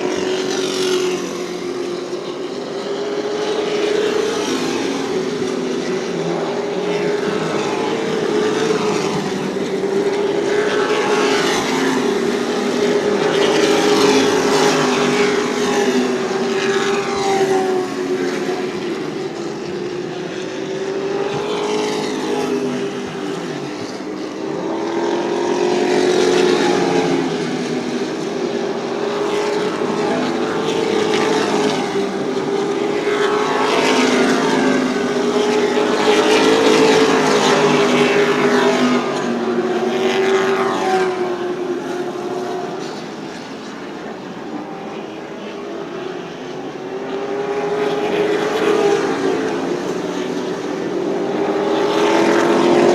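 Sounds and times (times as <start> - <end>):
race truck engines passing: 0.0 - 52.9.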